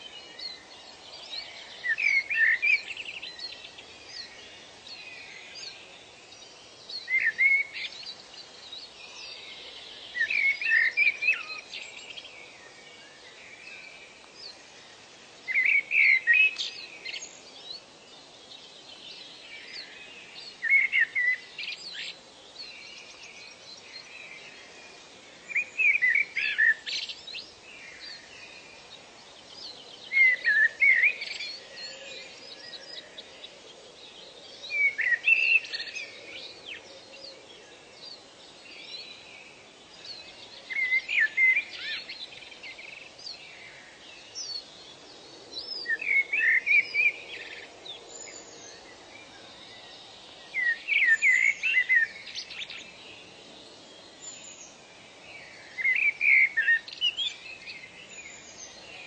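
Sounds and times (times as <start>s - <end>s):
soft bird chirps: 0.0s - 59.0s
songbird whistled song: 0.0s - 59.0s.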